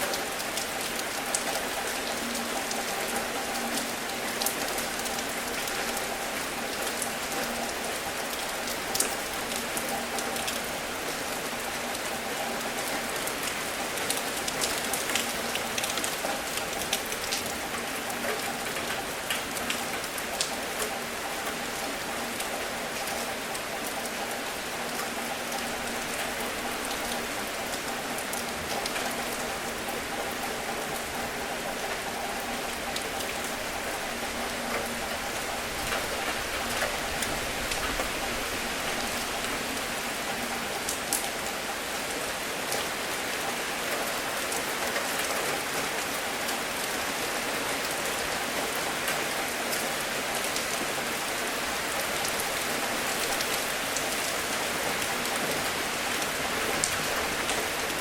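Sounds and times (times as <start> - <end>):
rain falling: 0.0 - 58.0
raindrops ticking on a surface: 0.0 - 58.0.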